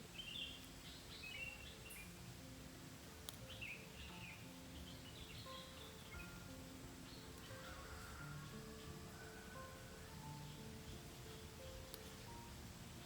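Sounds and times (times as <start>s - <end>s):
birds chirping: 0.0s - 2.3s, 3.2s - 13.0s
faint steady hiss: 0.0s - 13.0s
soft low held tones: 0.0s - 13.0s.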